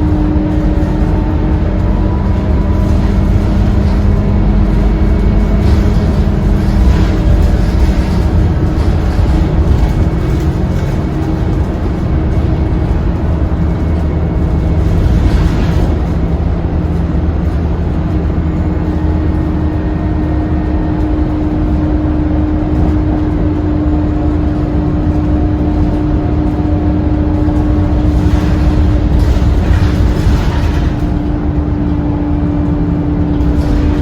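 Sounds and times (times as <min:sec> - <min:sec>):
bus diesel engine rumbling: 0:00.0 - 0:34.0
engine whine: 0:00.0 - 0:34.0.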